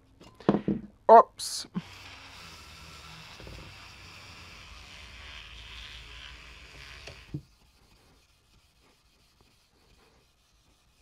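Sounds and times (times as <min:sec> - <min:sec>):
scrubbing on bare metal: 0:01.8 - 0:11.0.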